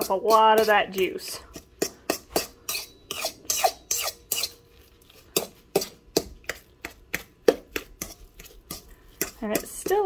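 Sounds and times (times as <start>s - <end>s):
fork scraping a metal bowl: 0.0s - 10.0s.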